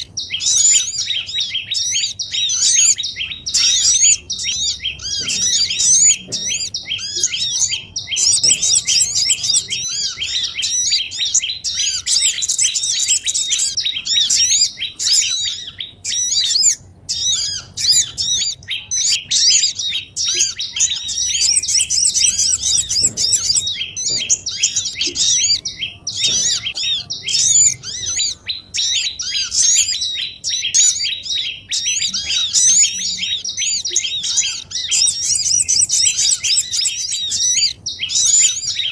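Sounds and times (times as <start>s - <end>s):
chorus of songbirds chirping: 0.0s - 38.9s.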